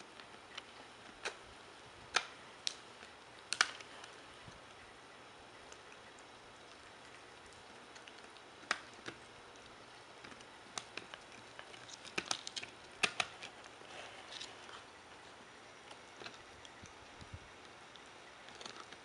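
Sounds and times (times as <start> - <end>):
puppy gnawing a rawhide bone: 0.0 - 19.0.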